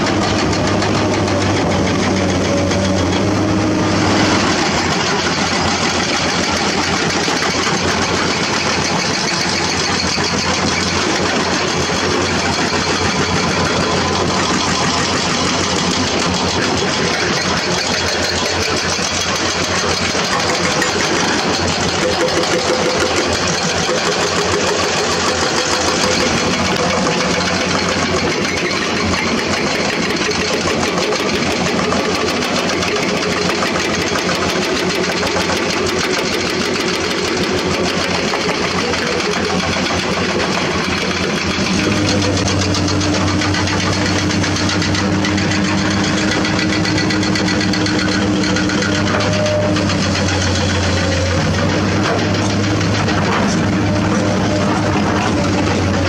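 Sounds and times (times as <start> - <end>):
deep engine hum: 0.0 - 56.0
excavator diesel engines: 0.0 - 56.0.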